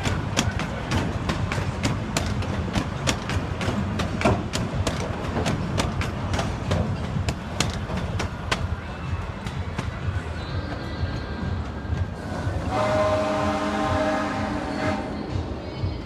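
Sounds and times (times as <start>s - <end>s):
train wheels clicking over rail joints: 0.0s - 13.2s
low rumble of rolling train cars: 0.0s - 16.0s.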